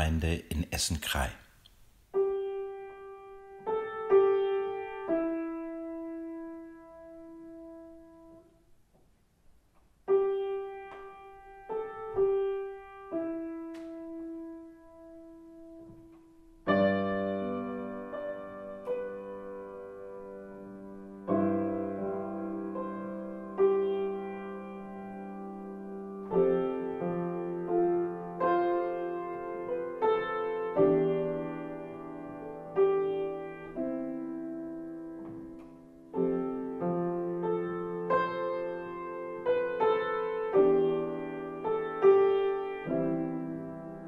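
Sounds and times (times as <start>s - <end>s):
solo piano melody: 2.0s - 44.0s.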